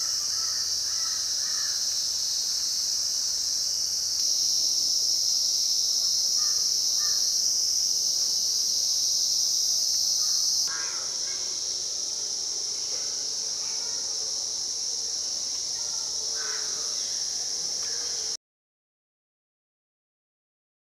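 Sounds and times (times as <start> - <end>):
high-pitched insect drone: 0.0 - 18.4.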